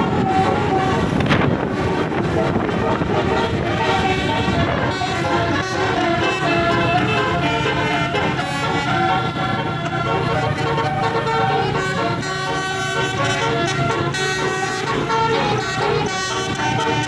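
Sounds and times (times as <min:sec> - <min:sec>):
air horns playing a tune: 0:00.0 - 0:17.0.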